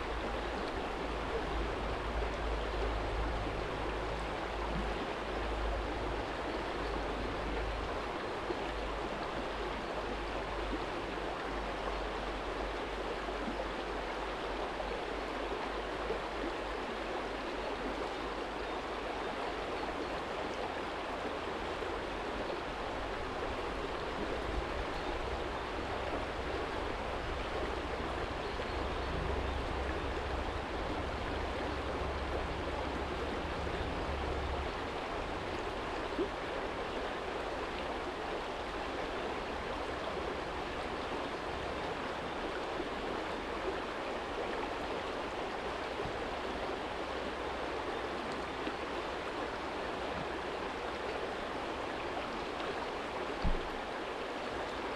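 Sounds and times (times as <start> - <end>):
stream flowing over stones: 0.0 - 54.9.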